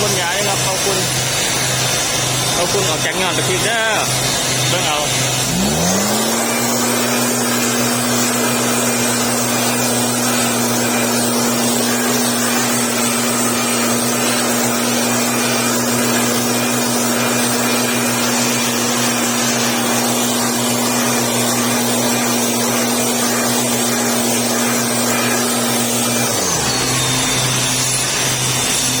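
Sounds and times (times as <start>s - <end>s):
mist blower engine running: 0.0s - 29.0s.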